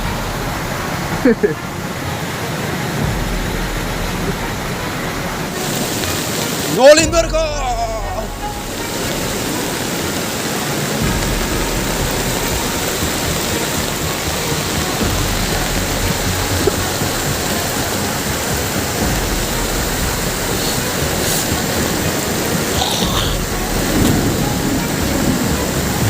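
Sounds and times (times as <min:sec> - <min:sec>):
heavy rain rushing: 0:00.0 - 0:26.0.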